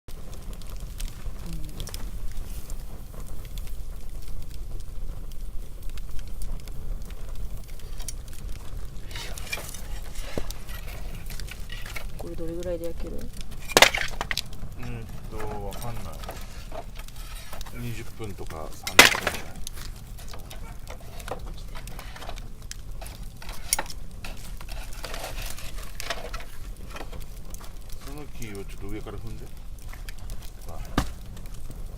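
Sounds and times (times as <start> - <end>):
bonfire crackling and popping: 0.1 - 31.9.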